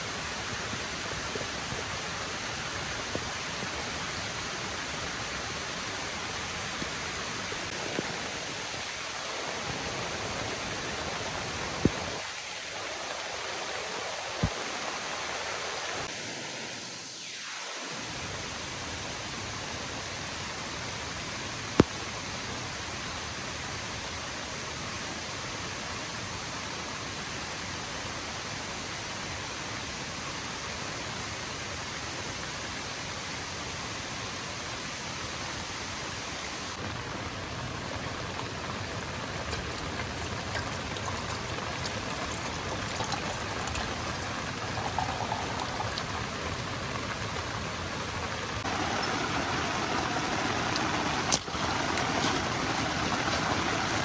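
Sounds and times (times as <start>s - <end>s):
rain and waterfall rushing: 0.0s - 54.0s.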